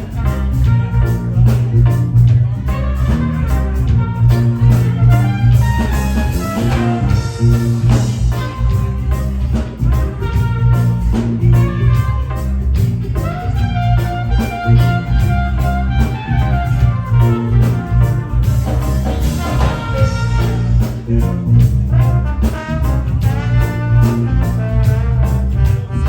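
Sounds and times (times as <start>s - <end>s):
heavy bass: 0.0s - 26.0s
horn section: 0.0s - 26.0s
reggae band playing: 0.0s - 26.0s.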